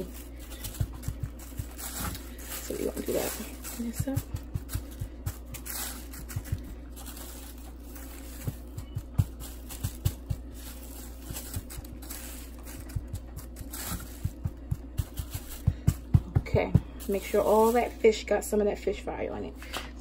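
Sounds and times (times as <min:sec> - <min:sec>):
plastic bag crinkling: 0:00.0 - 0:15.9, 0:16.5 - 0:18.4
steady low hum: 0:00.0 - 0:20.0
hand patting fish in breading: 0:00.1 - 0:17.8.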